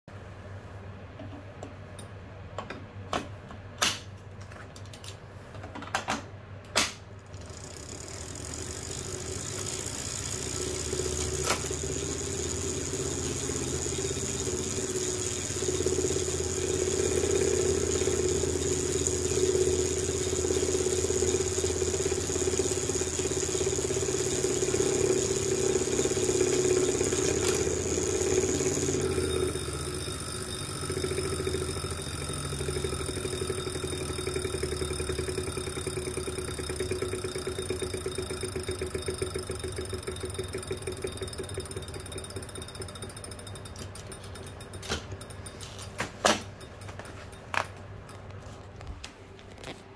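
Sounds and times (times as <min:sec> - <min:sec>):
bike trainer drone with rattle: 0:07.3 - 0:49.0.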